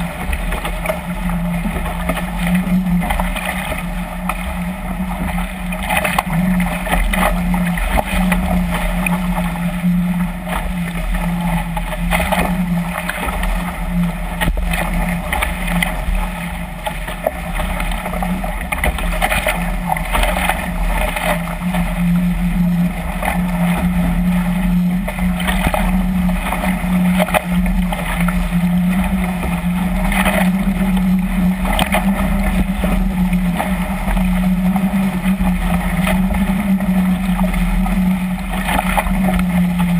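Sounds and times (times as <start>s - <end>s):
rushing water: 0.0s - 39.9s
steady low drone: 0.0s - 39.9s.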